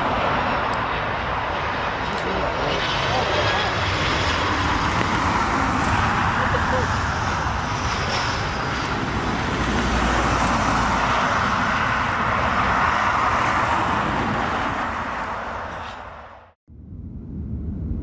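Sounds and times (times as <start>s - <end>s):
jet engines roaring: 0.0s - 16.6s.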